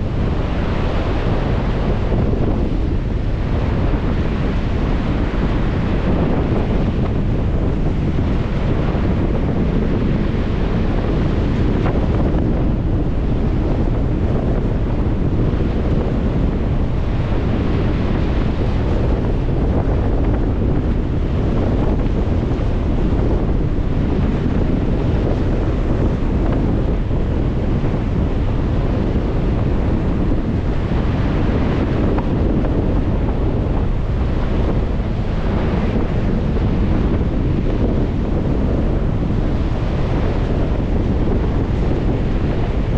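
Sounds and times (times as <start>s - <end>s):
waves washing onto shore: 0.0s - 42.9s
wind buffeting microphone: 0.0s - 42.9s.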